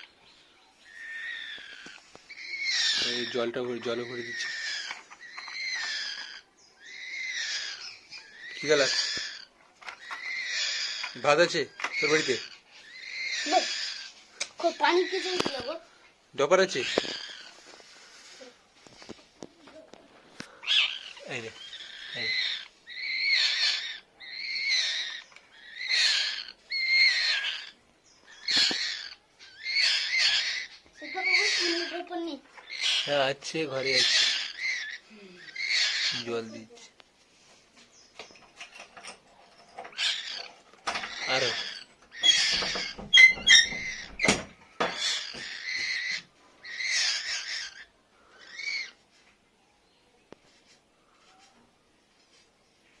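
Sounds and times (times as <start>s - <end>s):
young bird raspy calls: 0.0s - 36.9s, 39.8s - 49.0s.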